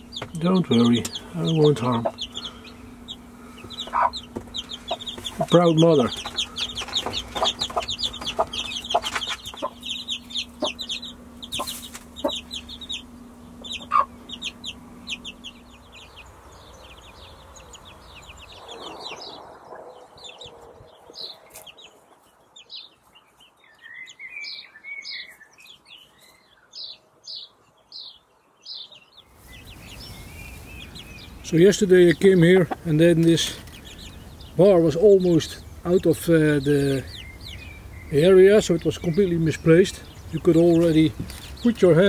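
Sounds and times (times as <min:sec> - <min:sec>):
hen clucking: 0:00.0 - 0:23.2, 0:28.9 - 0:42.0
bird chirps: 0:00.0 - 0:42.0
chicks peeping: 0:00.0 - 0:42.0
warbling bird song: 0:00.0 - 0:42.0.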